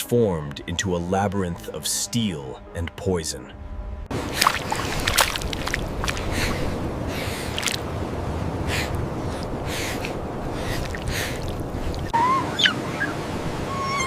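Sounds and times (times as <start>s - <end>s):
steady low rumble: 0.1s - 12.1s.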